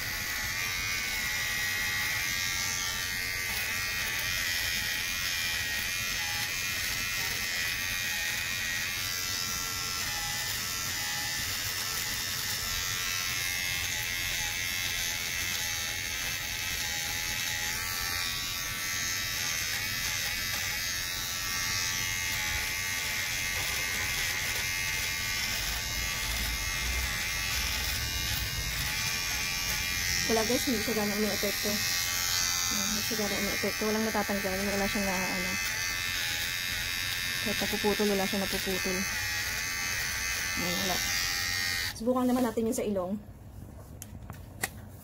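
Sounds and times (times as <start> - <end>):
electric shaver buzzing: 0.0 - 42.8.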